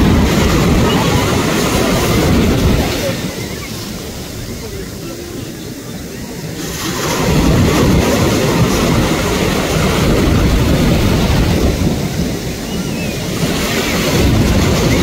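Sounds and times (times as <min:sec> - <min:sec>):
sea surf washing and breaking: 0:00.0 - 0:15.0.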